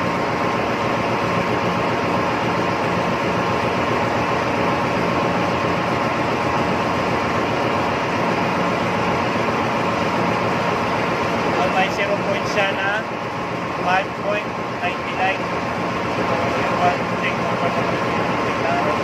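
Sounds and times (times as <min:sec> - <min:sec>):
ship machinery drone: 0:00.0 - 0:19.0.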